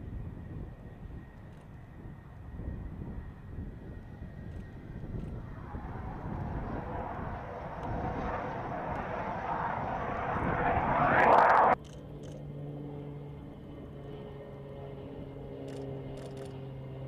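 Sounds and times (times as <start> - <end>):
propeller plane droning: 0.0 - 17.0
fighter jet engine rushing: 0.1 - 16.6.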